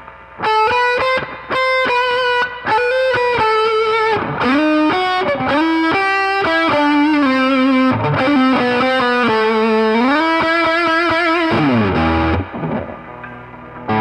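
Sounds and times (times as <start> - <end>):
electric guitar melody: 0.0 - 14.0.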